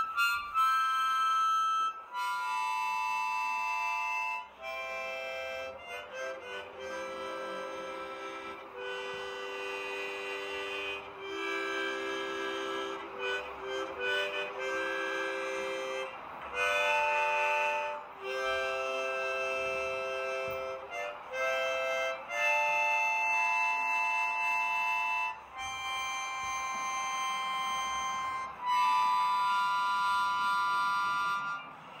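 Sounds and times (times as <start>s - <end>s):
slow held chords: 0.0s - 32.0s.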